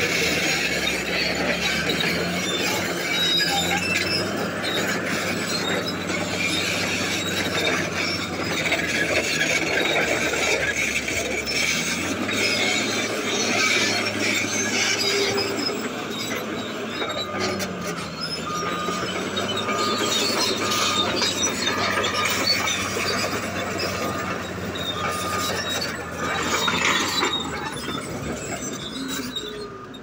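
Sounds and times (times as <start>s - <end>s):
diesel engine under load: 0.0s - 30.0s
steel tracks squealing and clanking: 0.0s - 30.0s.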